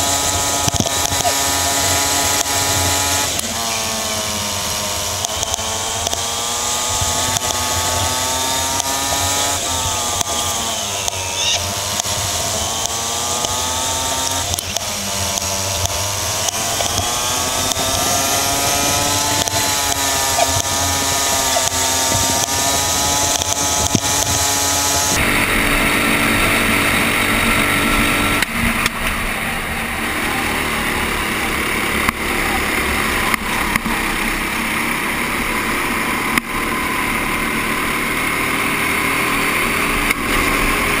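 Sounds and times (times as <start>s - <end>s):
go-kart engine: 0.0s - 41.0s.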